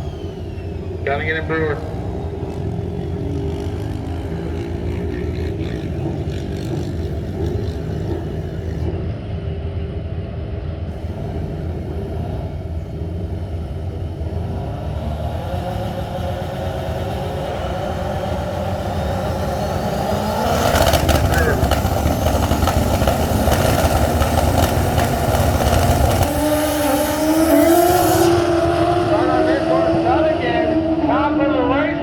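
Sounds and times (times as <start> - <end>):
racing motorcycle engines: 0.0 - 32.0.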